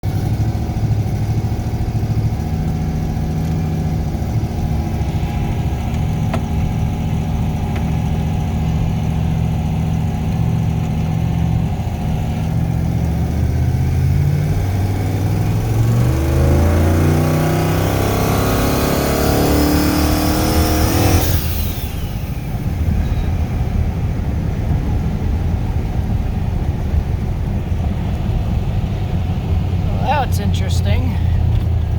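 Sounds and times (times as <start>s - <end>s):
car engine accelerating: 0.0s - 31.9s
high turbo whine: 0.0s - 31.9s.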